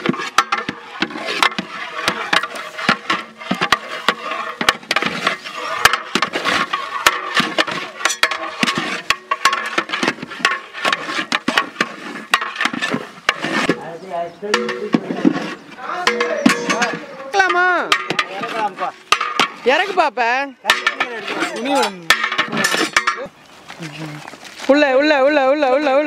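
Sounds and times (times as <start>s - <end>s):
metal ladles scraping a pot: 0.0s - 23.4s.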